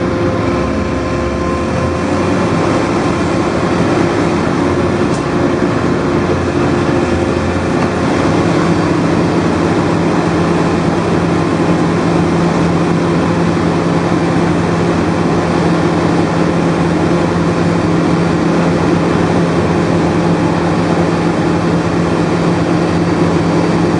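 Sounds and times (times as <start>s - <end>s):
drilling machine droning: 0.0s - 23.9s.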